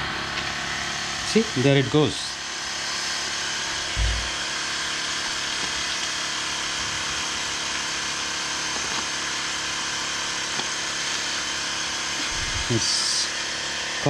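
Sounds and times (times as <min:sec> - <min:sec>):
small electric motor whirring: 0:02.4 - 0:14.0.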